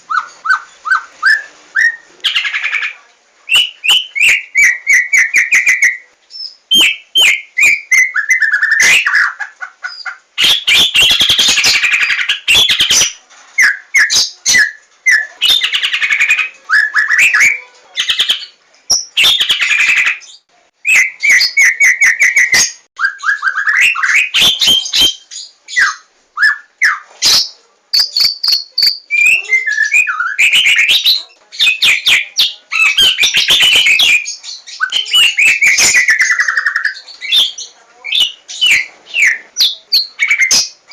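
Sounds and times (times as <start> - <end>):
songbird singing varied song: 3.5 - 40.9.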